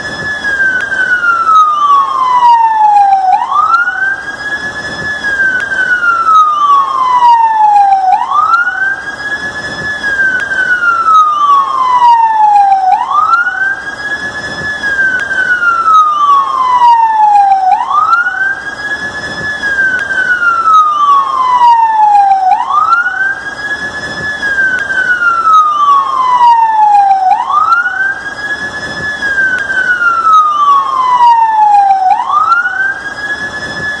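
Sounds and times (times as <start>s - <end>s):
emergency vehicle siren wailing: 0.0s - 34.0s.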